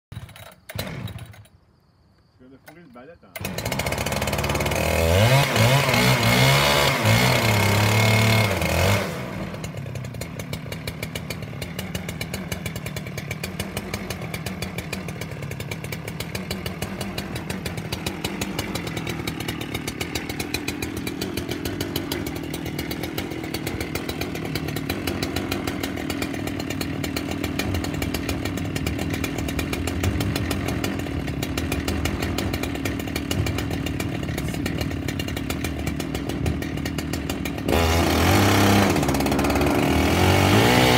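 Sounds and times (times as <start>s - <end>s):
chainsaw cutting through stump: 0.2s - 1.5s, 2.7s - 40.9s.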